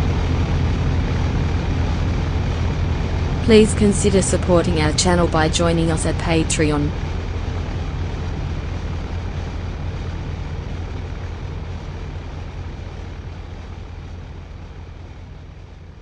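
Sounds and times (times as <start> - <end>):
droning noise music: 0.0 - 16.0
steady low rumble: 0.0 - 16.0.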